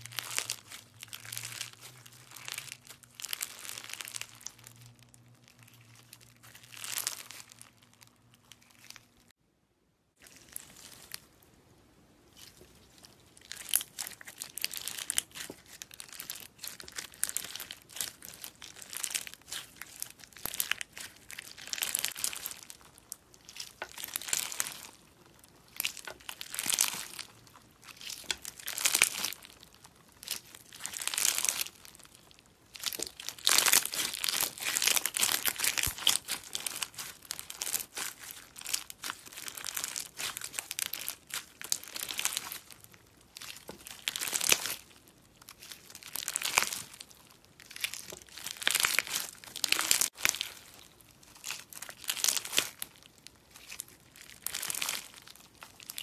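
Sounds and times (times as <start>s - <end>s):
beaded slime crackling: 0.0s - 9.4s, 10.2s - 11.5s, 12.3s - 56.0s.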